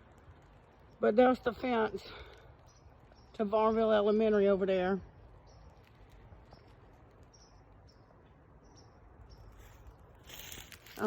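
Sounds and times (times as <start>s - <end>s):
rustle: 0.0s - 8.0s, 9.2s - 11.0s.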